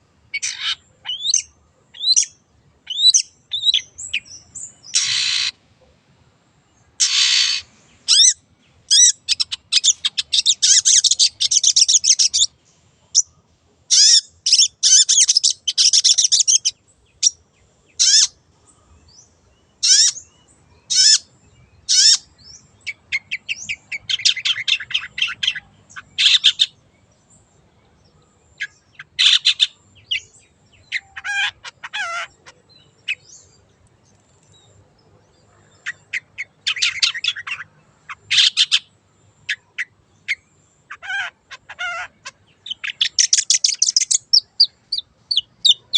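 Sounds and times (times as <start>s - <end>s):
bird chattering song: 0.3s - 5.6s, 6.8s - 18.4s, 19.0s - 45.9s
harsh rasping bird calls: 0.3s - 5.6s, 7.0s - 13.3s, 13.9s - 18.4s, 19.8s - 20.2s, 20.8s - 26.8s, 28.6s - 33.5s, 35.3s - 45.9s.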